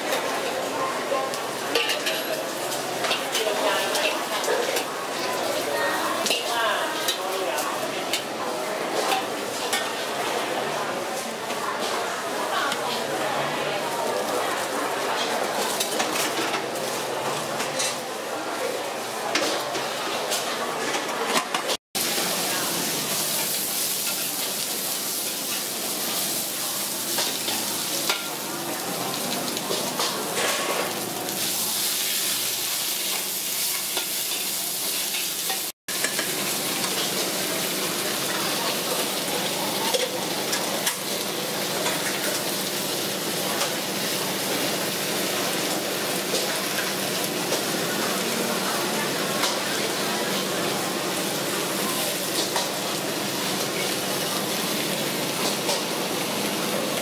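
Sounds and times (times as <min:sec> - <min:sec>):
greens sizzling in a wok: 0:00.0 - 0:20.6, 0:22.0 - 0:57.0.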